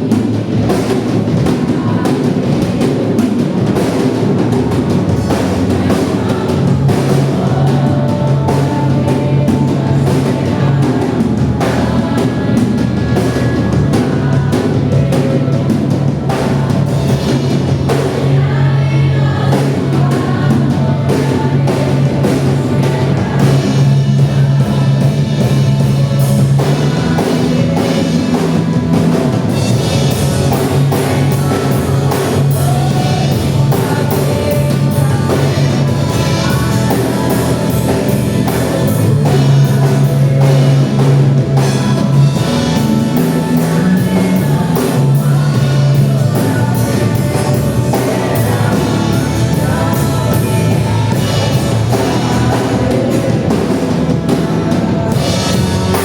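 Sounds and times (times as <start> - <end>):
person singing: 0.0 - 56.0
worship band playing: 0.0 - 56.0.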